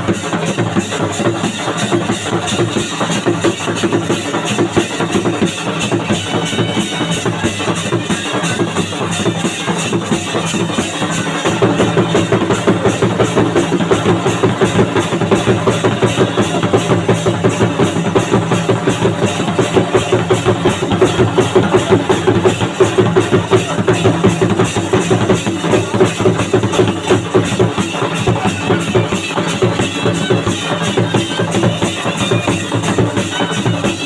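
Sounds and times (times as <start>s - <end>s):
fast steady drumming: 0.0s - 34.0s.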